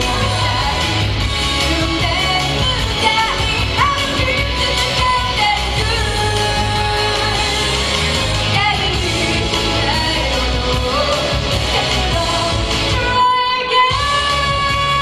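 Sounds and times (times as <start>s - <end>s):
recorded backing music: 0.0s - 15.0s
woman singing into microphone: 0.0s - 15.0s.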